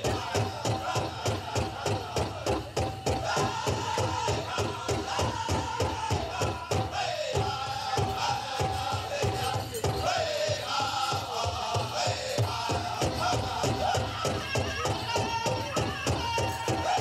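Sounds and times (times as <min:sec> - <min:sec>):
men chanting in high voices: 0:00.0 - 0:17.0.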